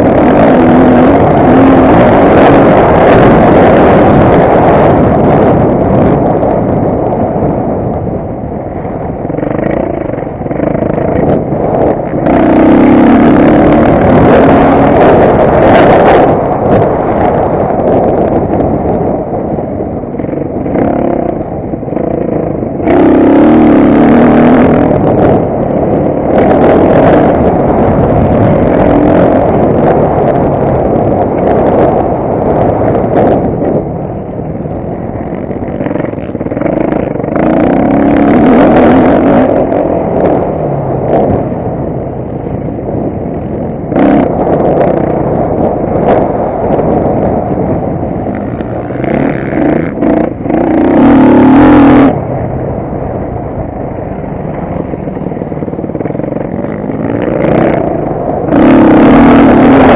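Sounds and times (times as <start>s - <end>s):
motocross bike engine revving: 0.0s - 7.0s, 9.2s - 19.0s, 20.1s - 41.6s, 43.3s - 52.2s, 54.3s - 59.9s.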